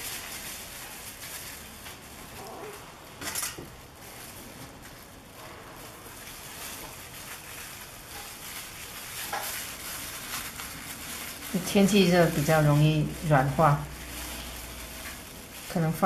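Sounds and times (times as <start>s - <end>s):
plastic wrap rustling: 0.0s - 16.0s.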